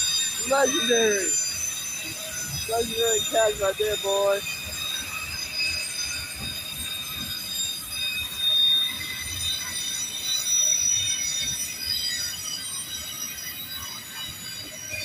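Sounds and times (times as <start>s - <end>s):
freight train rumble: 0.0s - 15.0s
train wheels squealing on rails: 0.0s - 15.0s.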